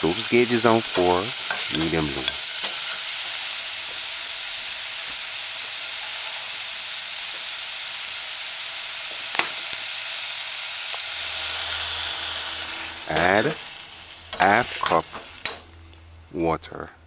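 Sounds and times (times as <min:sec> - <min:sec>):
food sizzling in a saucepan: 0:00.0 - 0:16.3.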